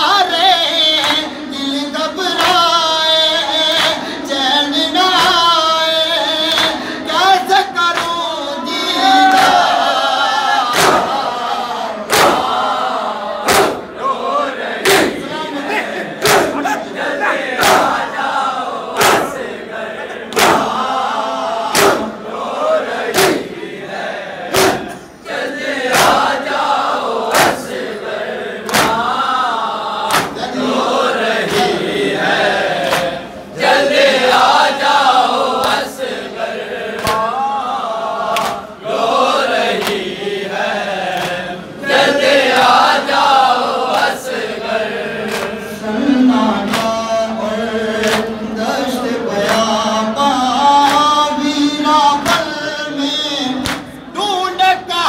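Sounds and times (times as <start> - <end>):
men chanting in unison: 0.0 - 55.0
person reciting into a microphone: 0.0 - 55.0
rhythmic chest slaps: 0.1 - 8.4, 9.2 - 10.0, 10.6 - 12.8, 13.4 - 15.3, 16.1 - 23.7, 24.4 - 37.5, 38.2 - 45.8, 46.6 - 54.1.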